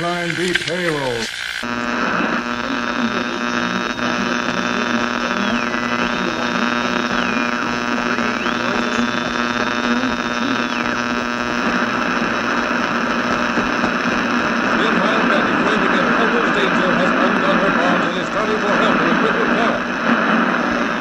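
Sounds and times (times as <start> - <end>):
radio mains hum with static: 0.0 - 21.0.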